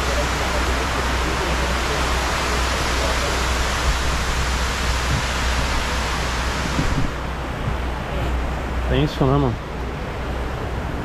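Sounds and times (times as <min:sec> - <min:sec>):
water cascading down stone walls: 0:00.0 - 0:10.3.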